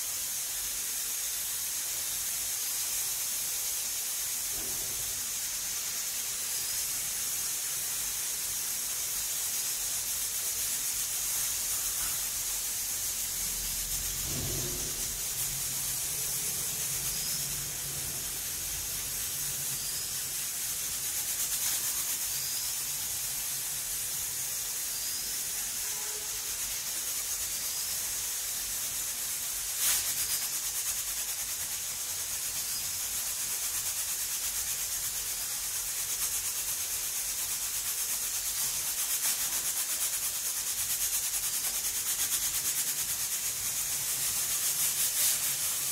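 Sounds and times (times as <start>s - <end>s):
pressure cooker hissing: 0.0s - 45.9s.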